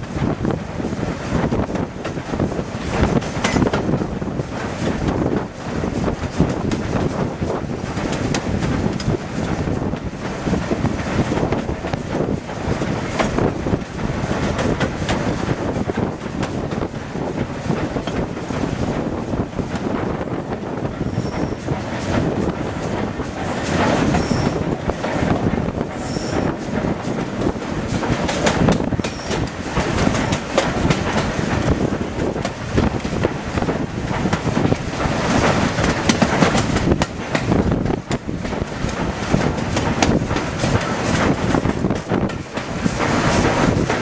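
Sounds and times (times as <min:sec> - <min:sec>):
rushing air: 0:00.0 - 0:44.0
steel wheels clattering on rails: 0:00.0 - 0:44.0.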